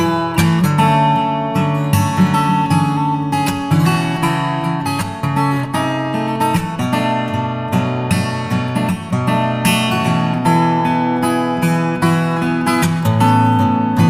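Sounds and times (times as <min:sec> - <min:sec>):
strummed acoustic guitar music: 0:00.0 - 0:14.0.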